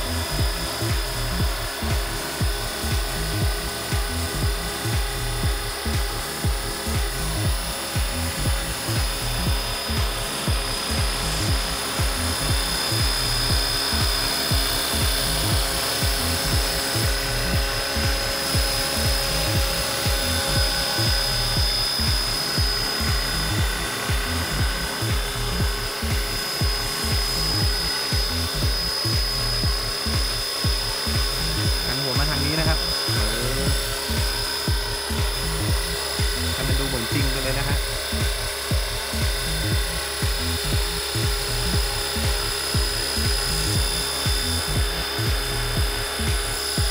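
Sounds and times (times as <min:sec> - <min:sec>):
high whine of helicopter drive: 0:00.0 - 0:46.9
rotor chop: 0:00.0 - 0:46.9.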